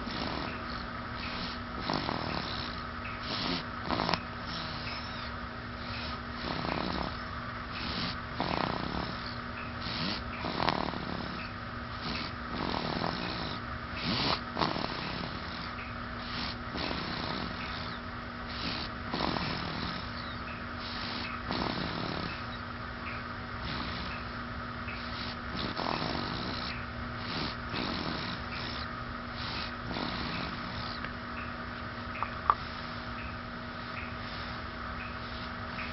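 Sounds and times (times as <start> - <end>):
snoring: 0.0 - 22.6, 23.6 - 24.3, 25.0 - 31.1, 33.8 - 35.9
steady low hum: 0.0 - 35.9.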